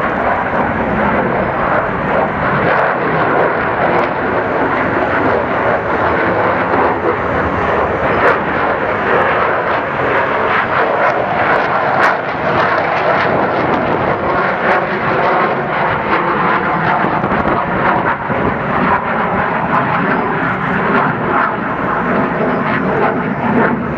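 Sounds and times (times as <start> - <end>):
crackling jet roar: 0.0 - 23.9.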